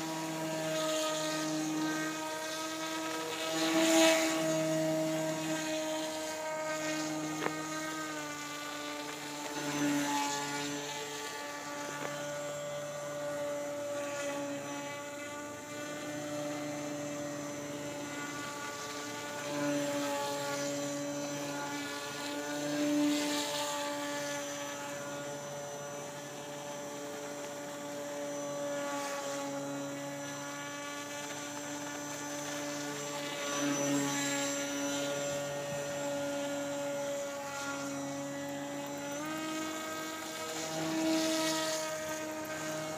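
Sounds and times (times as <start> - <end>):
model airboat motor whining: 0.0 - 42.9.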